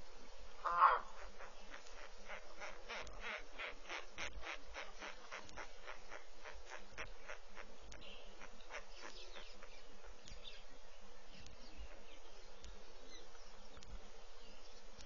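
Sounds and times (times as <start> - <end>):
insect hiss: 0.0 - 15.0
faint bird chirps: 0.6 - 15.0.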